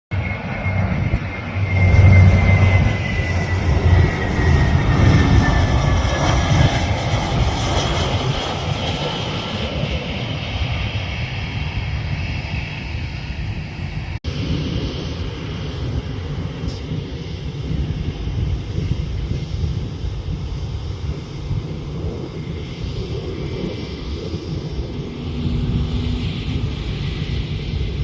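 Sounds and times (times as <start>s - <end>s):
airplane engines passing: 0.1s - 28.0s.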